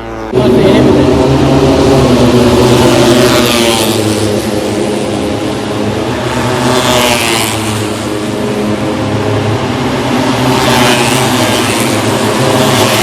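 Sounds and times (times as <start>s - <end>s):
racing motorcycles passing by: 0.0s - 13.0s.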